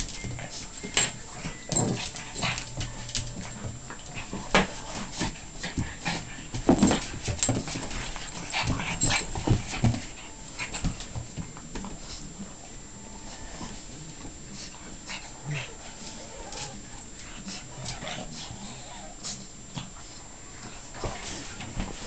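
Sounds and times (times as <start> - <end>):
dogs play-fighting: 0.0 - 22.0.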